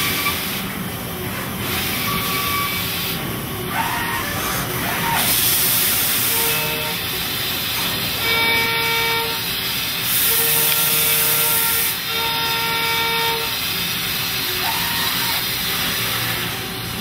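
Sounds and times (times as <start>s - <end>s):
coolant spray and metal cutting hiss: 0.0s - 17.0s.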